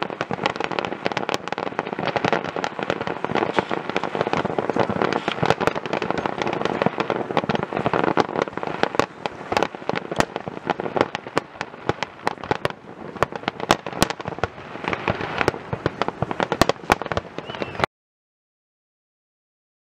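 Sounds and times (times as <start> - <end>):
fireworks crackling and popping: 0.0 - 17.9.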